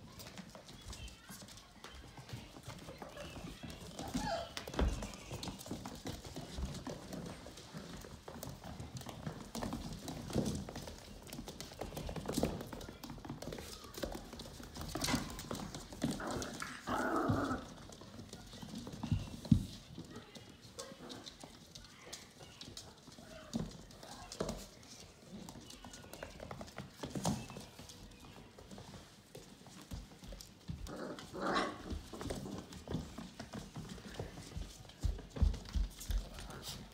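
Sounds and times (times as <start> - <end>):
puppy claws clicking on wood floor: 0.0 - 36.9.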